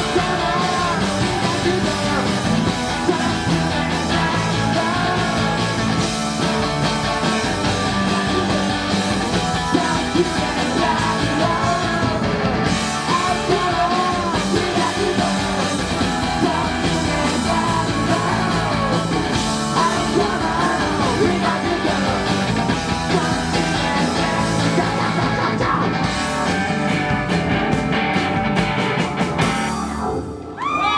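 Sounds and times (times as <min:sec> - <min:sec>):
man singing and shouting: 0:00.0 - 0:06.0, 0:07.3 - 0:27.0
bass guitar: 0:00.0 - 0:30.9
drums: 0:00.0 - 0:30.9
electric guitar: 0:00.0 - 0:30.9
keyboard: 0:00.0 - 0:30.9.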